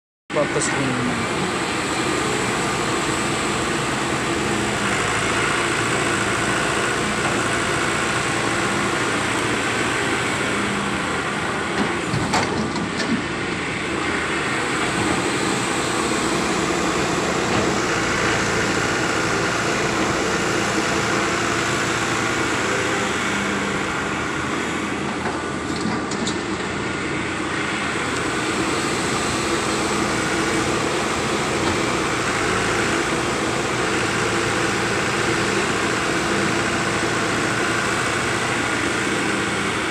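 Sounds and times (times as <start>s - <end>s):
excavator diesel engine running: 0.3s - 39.9s.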